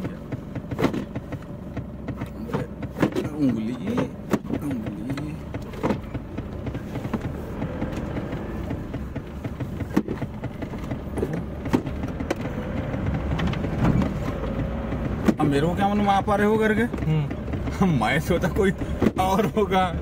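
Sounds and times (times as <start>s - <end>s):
car engine rumble from inside: 0.0s - 20.0s.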